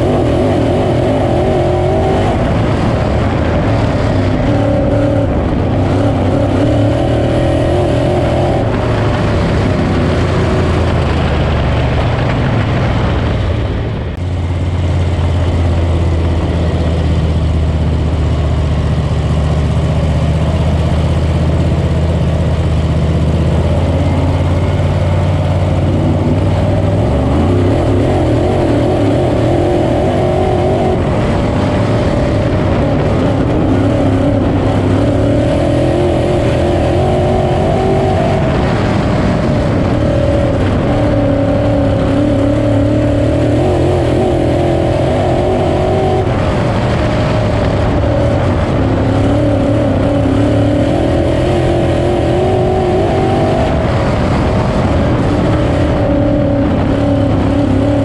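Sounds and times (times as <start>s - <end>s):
race car engine at speed: 0.0s - 58.0s.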